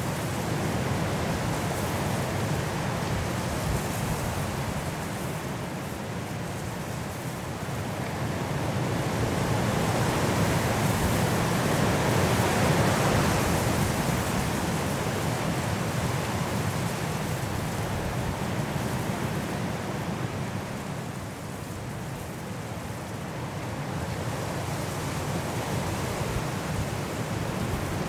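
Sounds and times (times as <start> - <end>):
high wind through trees: 0.0 - 28.0.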